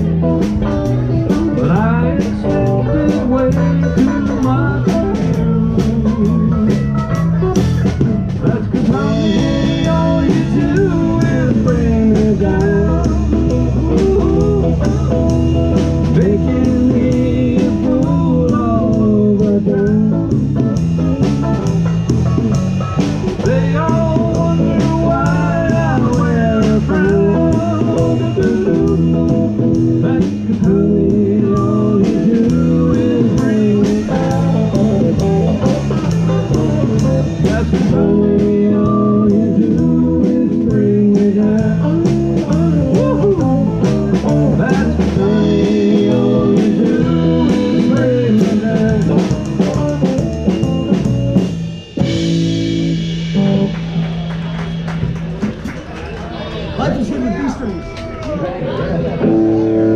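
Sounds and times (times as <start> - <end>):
blues-rock band playing: 0.0 - 56.1, 59.0 - 59.9
electric guitar lead: 0.0 - 56.1, 59.0 - 59.9.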